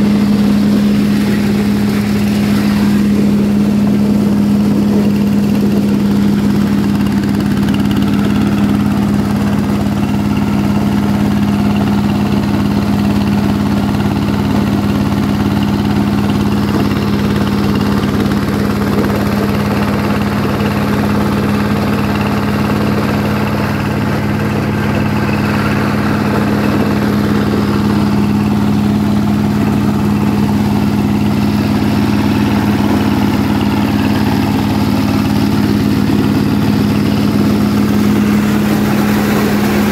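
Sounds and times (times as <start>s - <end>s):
corn sheller machine drone: 0.0s - 39.9s.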